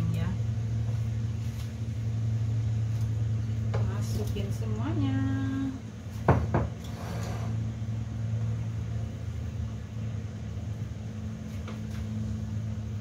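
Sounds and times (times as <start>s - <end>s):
extractor fan humming: 0.0s - 13.0s.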